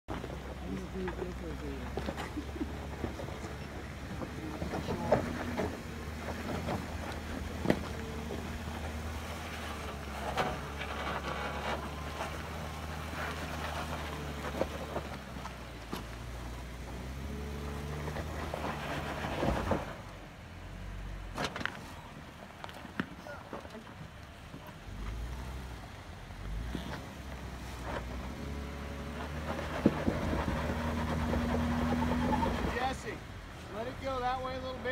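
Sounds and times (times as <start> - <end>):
car engine running under load: 0.0 - 34.9.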